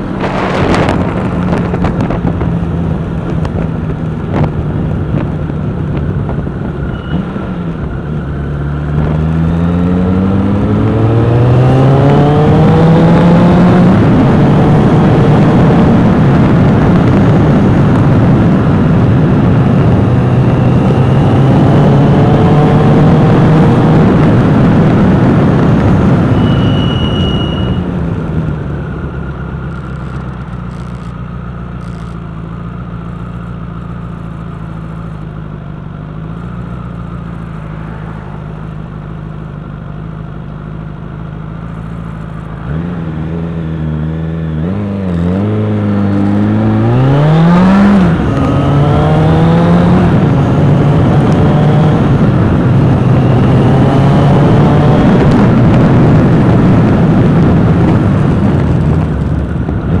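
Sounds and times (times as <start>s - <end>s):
vehicle engine revving: 0.0s - 40.2s, 41.4s - 60.0s
road and wind noise: 0.0s - 60.0s.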